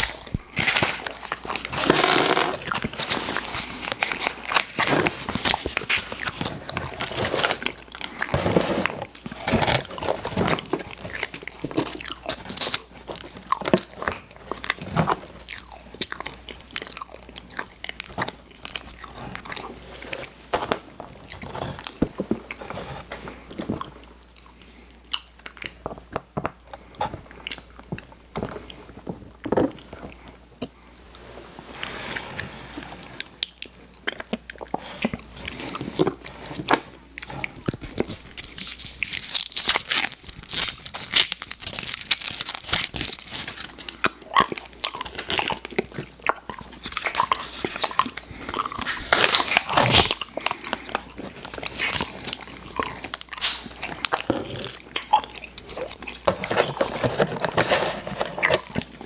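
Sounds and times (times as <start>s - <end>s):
person chewing sweets: 0.0s - 59.0s.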